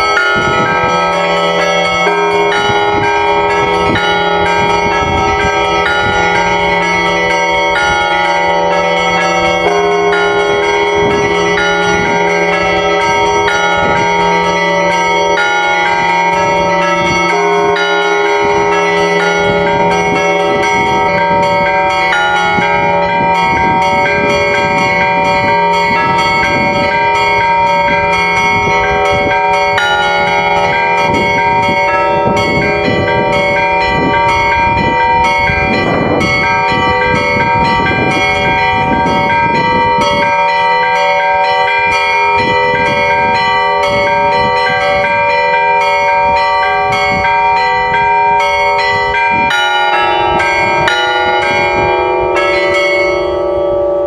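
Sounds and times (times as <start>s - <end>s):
deep bell: 0.0s - 54.0s
large bells ringing: 0.0s - 54.0s
rapid peal of small bells: 0.0s - 54.0s.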